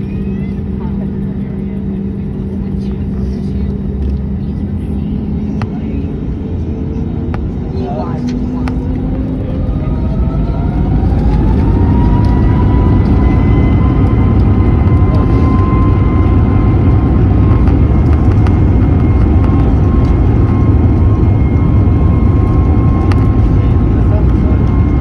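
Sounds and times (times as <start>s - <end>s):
cabin rumble: 0.0s - 25.0s
jet engines whining: 0.0s - 25.0s.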